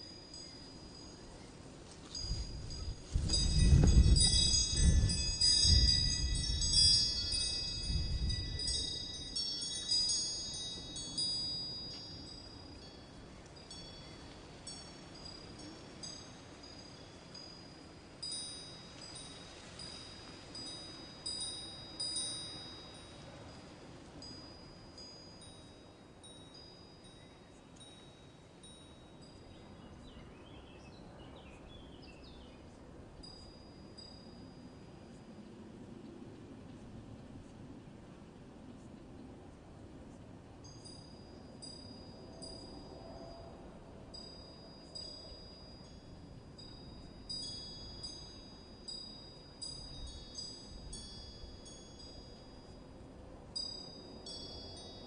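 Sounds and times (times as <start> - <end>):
wind chimes tinkling: 0.0 - 30.8, 32.1 - 35.5, 40.6 - 55.0.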